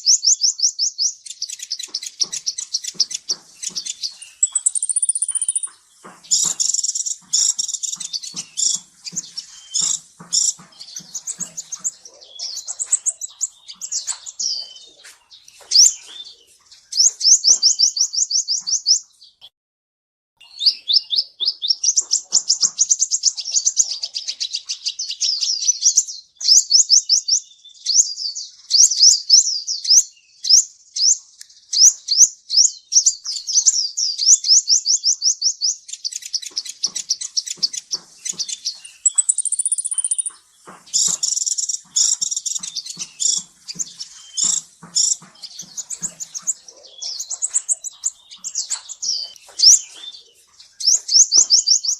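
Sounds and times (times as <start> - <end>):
bird singing fast high chirps: 0.0 - 19.0, 28.7 - 51.9.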